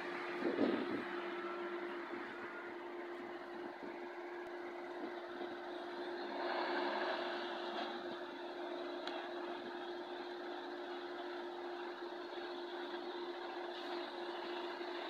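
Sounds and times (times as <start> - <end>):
lorry approaching slowly: 0.0 - 14.8
diesel farm machinery idling: 0.0 - 15.0.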